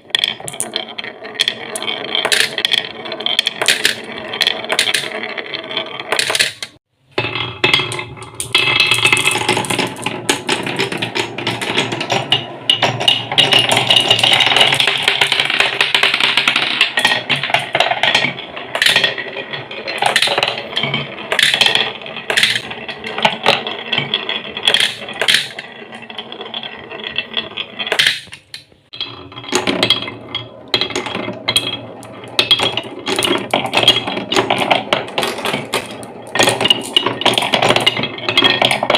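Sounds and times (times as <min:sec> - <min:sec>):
marbles clicking against blocks: 0:00.0 - 0:06.8, 0:07.6 - 0:38.9
marbles rolling on wooden tracks: 0:00.0 - 0:38.9.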